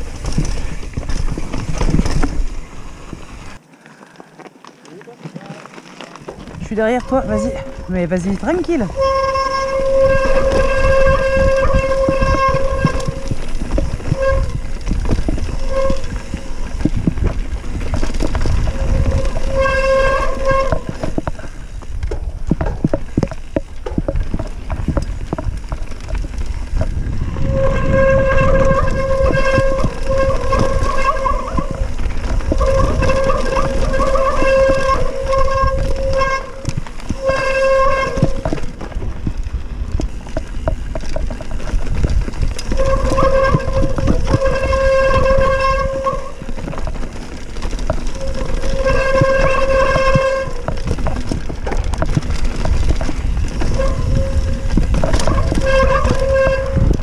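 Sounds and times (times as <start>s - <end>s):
bike knocking and rattling: 0.0s - 57.0s
tyres rumbling on dirt: 0.0s - 57.0s
wind on microphone: 6.4s - 57.0s
bicycle freehub buzzing: 7.0s - 57.0s.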